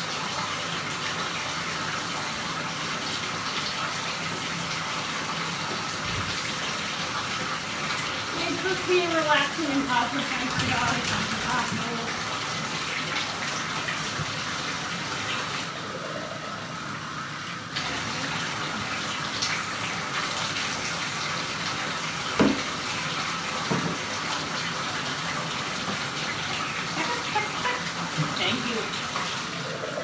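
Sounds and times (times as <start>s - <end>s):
tap water running into bathtub: 0.0s - 30.0s.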